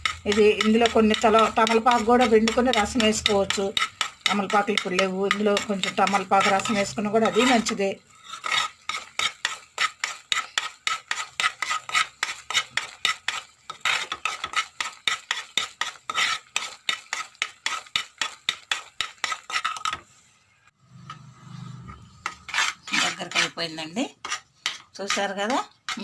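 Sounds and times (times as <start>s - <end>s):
spoon scraping and knocking pan: 0.0s - 20.2s, 20.9s - 26.0s.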